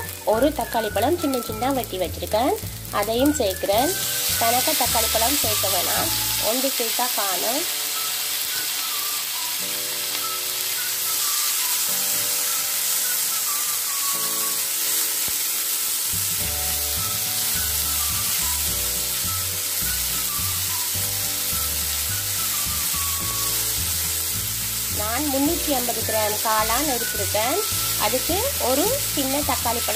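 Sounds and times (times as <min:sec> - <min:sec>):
vegetables sizzling in oil: 0:00.0 - 0:29.9.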